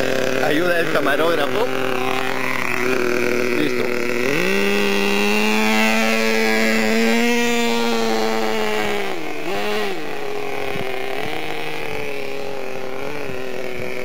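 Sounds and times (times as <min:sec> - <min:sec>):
small model engine high pitch: 0:00.0 - 0:14.0.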